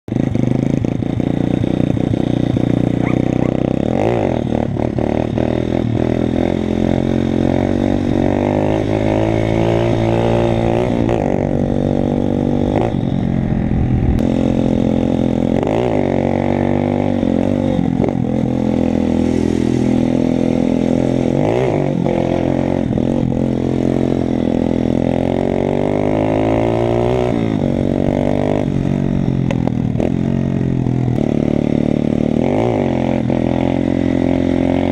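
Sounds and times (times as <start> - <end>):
motorbike engine revving: 0.1 - 34.9.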